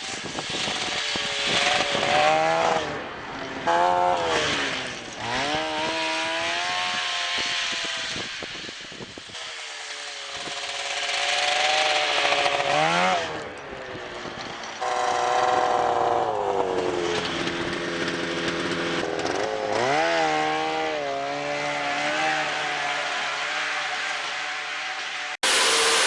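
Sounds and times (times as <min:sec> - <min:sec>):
snowmobile engines revving: 0:00.0 - 0:26.0.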